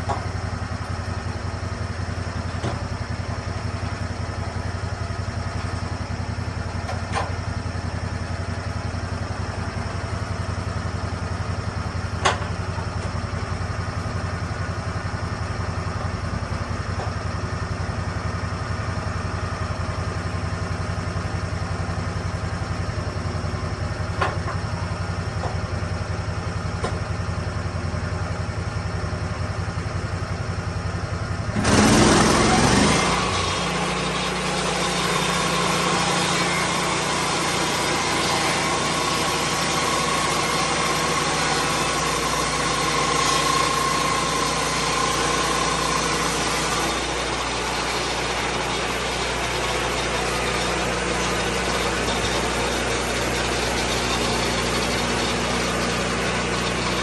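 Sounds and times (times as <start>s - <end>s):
sawmill engine idling: 0.0s - 57.0s.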